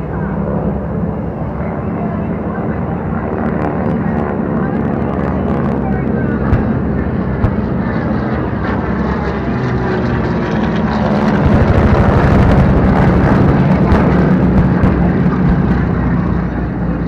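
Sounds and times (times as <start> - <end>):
propeller planes engine drone: 0.0 - 17.0.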